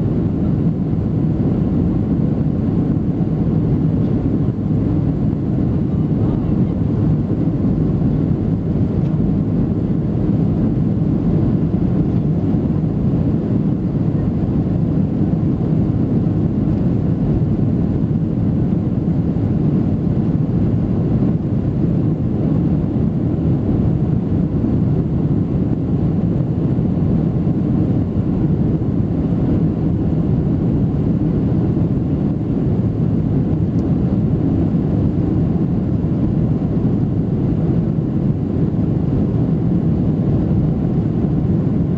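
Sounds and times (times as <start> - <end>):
airliner cabin jet engine rumble: 0.0 - 41.9.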